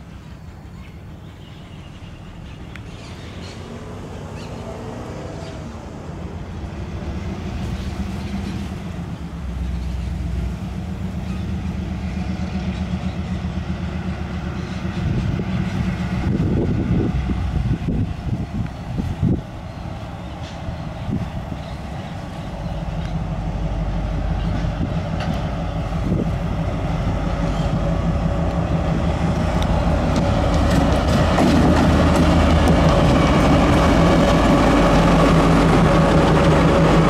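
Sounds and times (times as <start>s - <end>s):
diesel locomotive engine: 0.0s - 37.0s.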